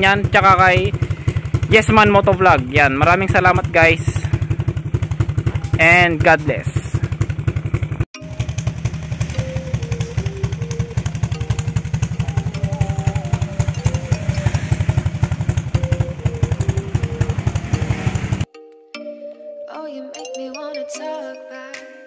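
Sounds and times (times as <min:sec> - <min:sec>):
motorcycle engine running: 0:00.0 - 0:18.5.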